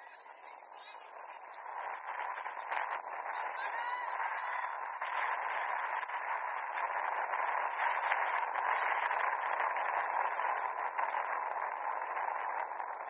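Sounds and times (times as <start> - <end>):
steady static hiss: 0.0 - 13.0.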